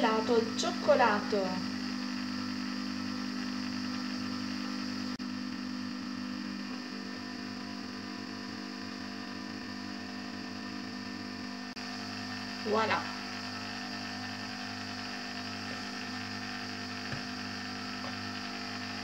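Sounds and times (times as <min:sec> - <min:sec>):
ice cream maker motor humming: 0:00.0 - 0:19.0.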